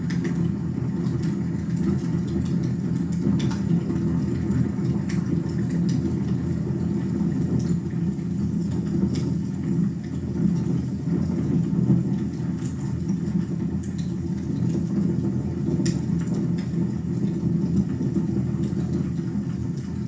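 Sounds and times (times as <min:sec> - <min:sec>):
low rumble of wood fire: 0:00.0 - 0:20.0.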